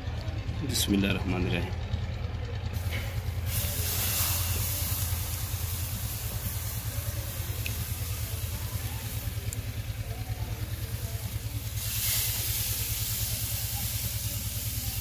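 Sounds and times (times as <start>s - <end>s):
fish sizzling on a grill: 2.8s - 15.0s.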